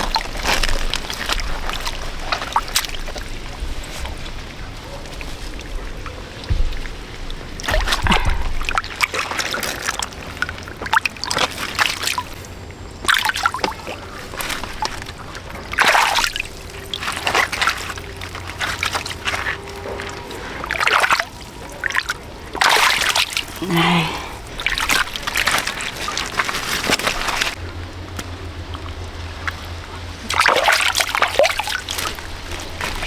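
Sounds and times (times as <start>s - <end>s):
water splashing and sloshing: 0.0s - 33.0s
water trickling: 0.0s - 33.0s.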